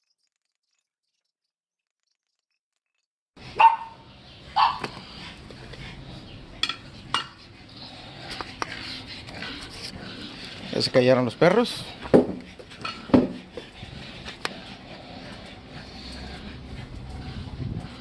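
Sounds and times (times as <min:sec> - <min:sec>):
dogs barking: 0:03.4 - 0:18.0.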